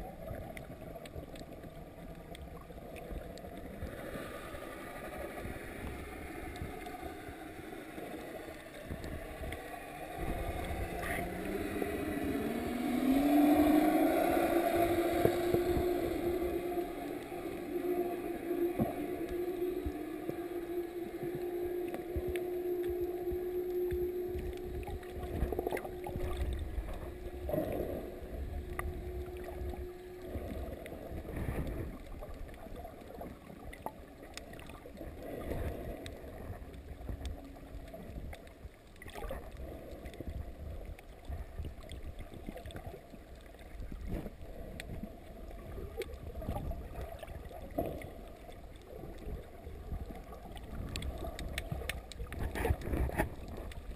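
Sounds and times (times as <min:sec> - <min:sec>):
steady hum: 0:00.0 - 0:53.9
underwater water movement: 0:00.0 - 0:53.9.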